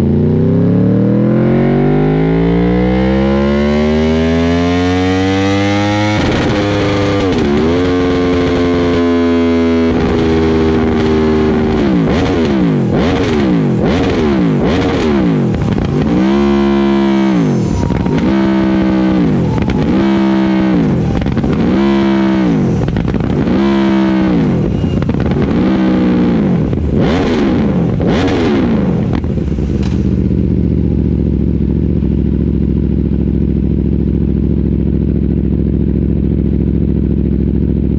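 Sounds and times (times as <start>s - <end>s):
motorcycle engine revving and idling: 0.0s - 37.9s.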